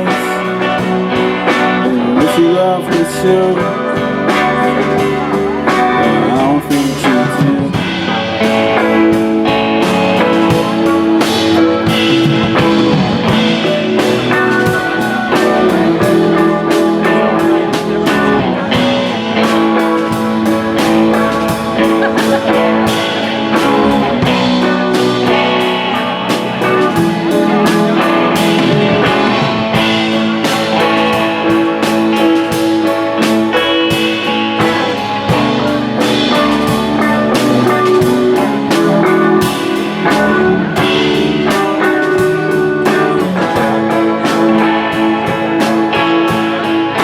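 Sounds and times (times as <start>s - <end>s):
drum kit beat: 0.0s - 47.0s
electric guitars playing: 0.0s - 47.0s.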